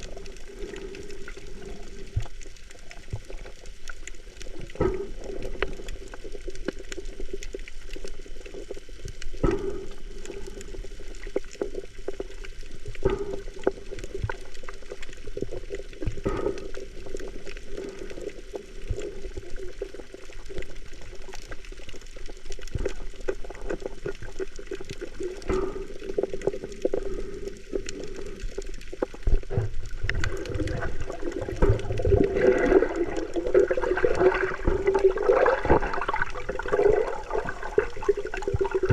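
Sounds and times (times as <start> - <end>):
water sloshing and splashing: 0.0 - 38.9.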